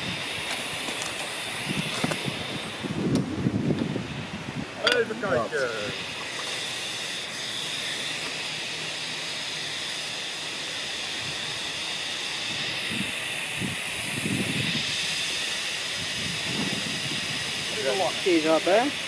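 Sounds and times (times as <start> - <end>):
steam hissing from boiler: 0.0 - 19.0.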